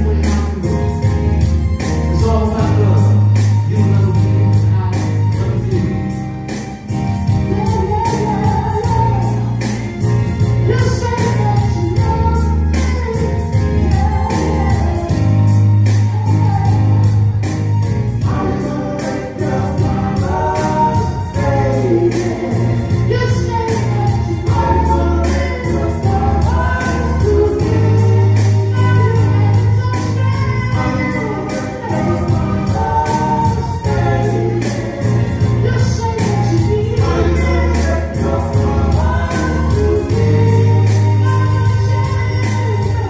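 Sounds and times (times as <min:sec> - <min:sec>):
bass line: 0:00.0 - 0:43.0
drums steady beat: 0:00.0 - 0:43.0
voices singing together: 0:07.6 - 0:17.4, 0:18.1 - 0:43.0.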